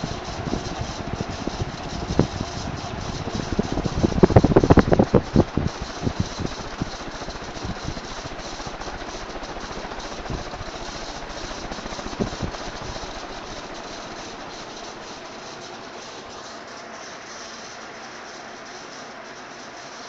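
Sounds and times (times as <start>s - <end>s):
ceiling fan whirring: 0.0s - 20.0s
fan knocking and rattling: 0.0s - 20.0s.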